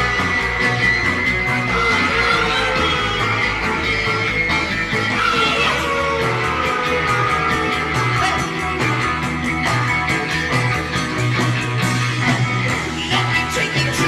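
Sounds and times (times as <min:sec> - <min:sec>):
psychedelic rock band playing: 0:00.0 - 0:14.0.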